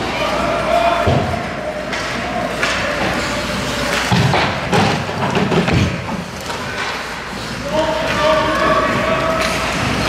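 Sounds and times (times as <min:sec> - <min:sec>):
hockey sticks and puck clacking: 0:00.0 - 0:10.0.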